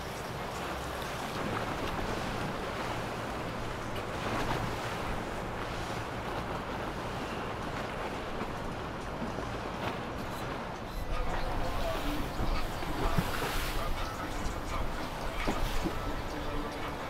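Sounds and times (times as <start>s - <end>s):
boat wake splashing: 0.0s - 17.0s
outboard engines humming: 0.0s - 17.0s
wind on microphone: 0.0s - 17.0s.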